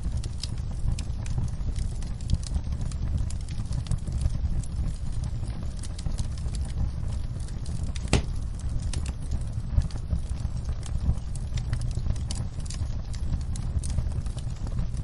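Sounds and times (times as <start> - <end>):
low rumble of flame: 0.0 - 15.0
wood crackling and popping: 0.0 - 15.0.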